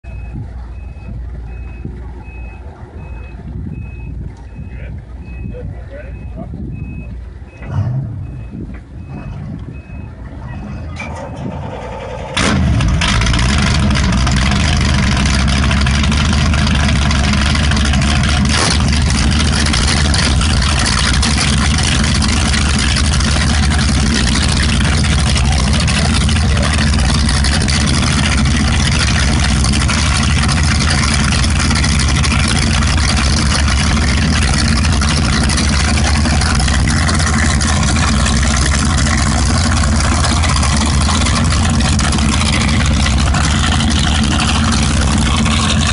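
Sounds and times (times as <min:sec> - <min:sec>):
boat engines starting and idling: 0:00.0 - 0:45.9.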